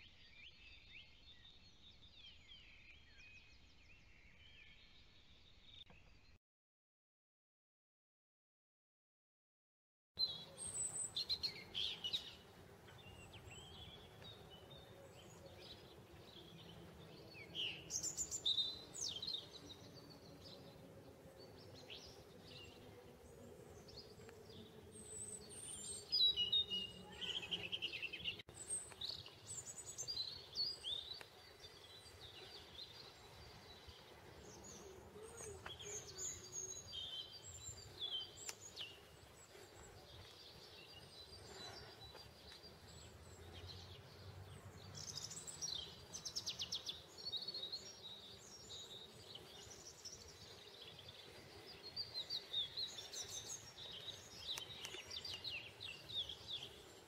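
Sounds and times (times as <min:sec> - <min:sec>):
songbirds chirping and singing: 0:00.0 - 0:06.4, 0:10.2 - 0:57.0
faint background noise: 0:10.2 - 0:57.0.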